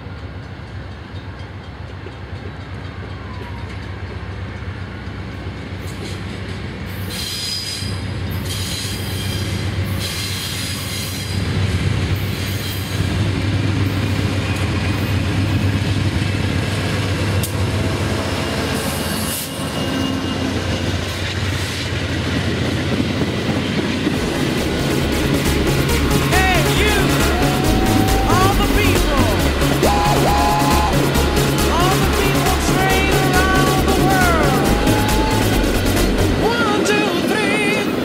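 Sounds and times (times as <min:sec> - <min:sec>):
diesel locomotive engine drone: 0:00.0 - 0:38.0
train wheels rumbling on rails: 0:00.0 - 0:38.0.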